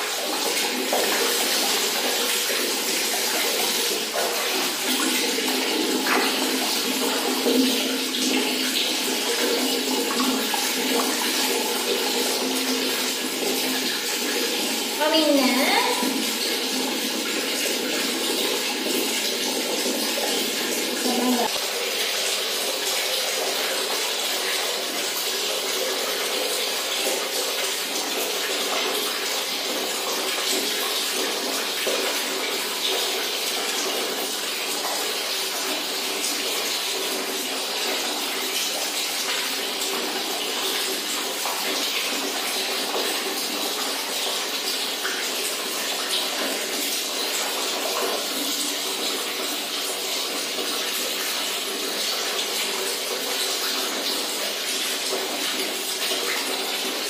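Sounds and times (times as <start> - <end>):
water running from a tap: 0.0 - 57.0.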